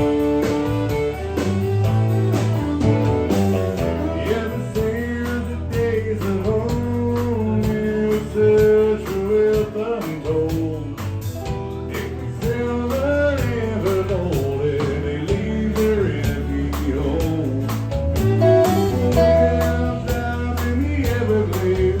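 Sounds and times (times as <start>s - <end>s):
country song by a band: 0.0s - 22.0s.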